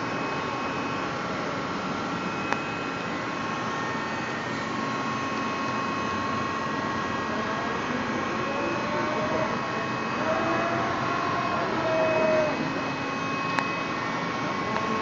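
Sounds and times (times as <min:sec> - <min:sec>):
high steady whines: 0:00.0 - 0:15.0
machine whirring: 0:00.0 - 0:15.0.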